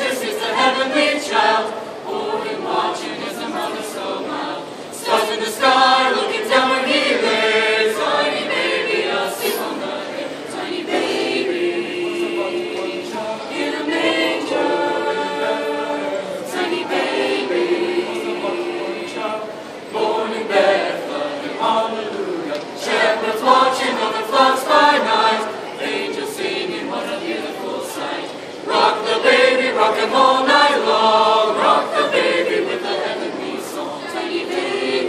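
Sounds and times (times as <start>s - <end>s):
mixed choir singing: 0.0s - 35.0s.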